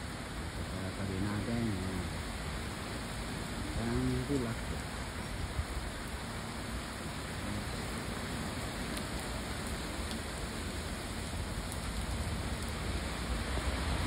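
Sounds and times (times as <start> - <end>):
rain on foliage: 0.0 - 14.0.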